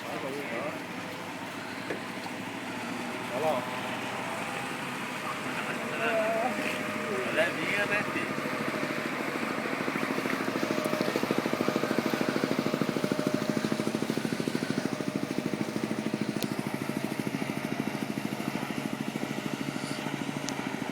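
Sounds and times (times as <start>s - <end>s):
outboard engine running: 0.0s - 20.9s.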